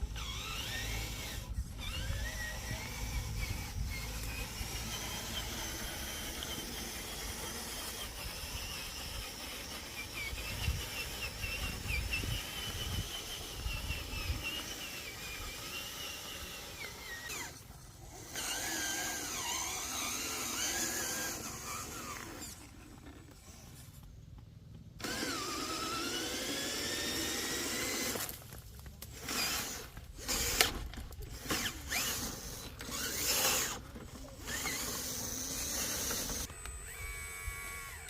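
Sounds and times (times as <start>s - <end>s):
small electric motors whining: 0.0s - 38.0s.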